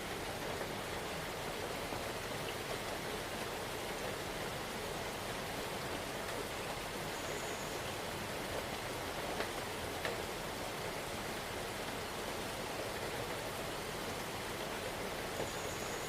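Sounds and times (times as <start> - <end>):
steady rain hiss: 0.0 - 16.0
faint raindrop ticks: 0.2 - 11.1, 11.8 - 16.0.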